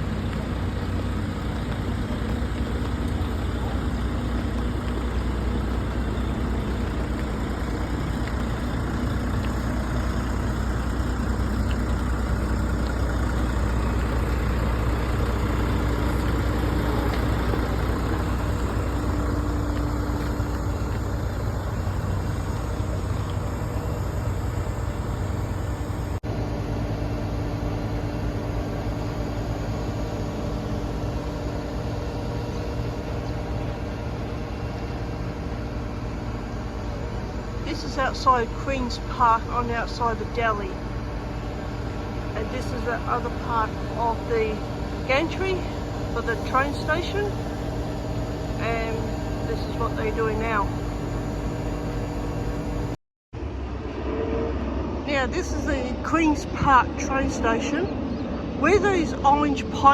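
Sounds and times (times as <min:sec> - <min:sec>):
bus engine running: 0:00.0 - 0:53.0, 0:55.0 - 0:59.9
road noise: 0:00.0 - 0:59.9.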